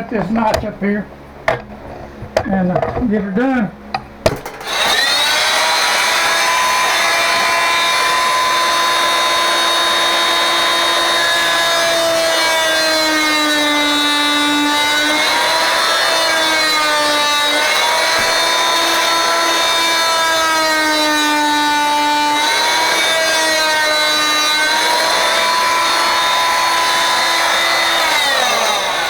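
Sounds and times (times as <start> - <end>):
oscillating multi-tool buzzing: 3.9 - 29.0.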